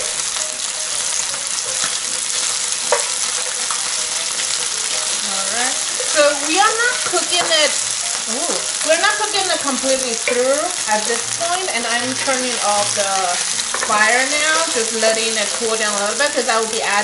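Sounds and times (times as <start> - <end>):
chicken sizzling in a frying pan: 0.0 - 17.0
spatula tapping pan: 0.4 - 7.9, 9.3 - 16.4.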